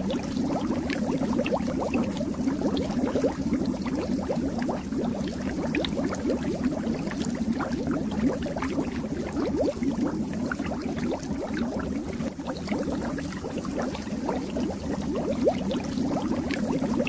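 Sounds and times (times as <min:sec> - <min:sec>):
fish tank water bubbling: 0:00.0 - 0:17.0.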